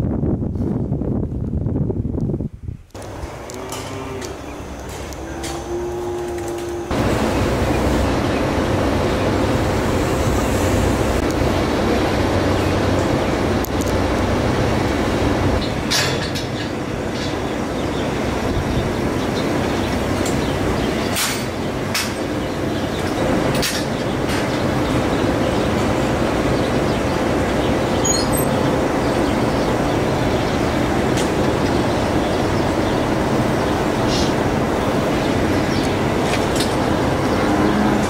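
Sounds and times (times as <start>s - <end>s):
machinery rumble: 3.0s - 38.0s.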